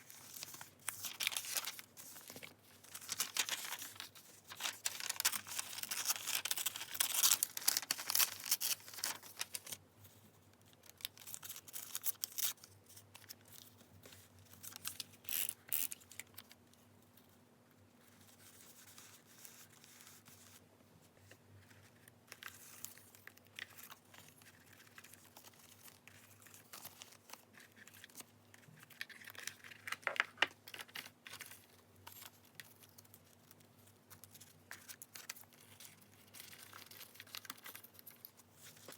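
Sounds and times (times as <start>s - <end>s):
paper rustling and crinkling: 0.0s - 16.6s, 18.0s - 38.9s.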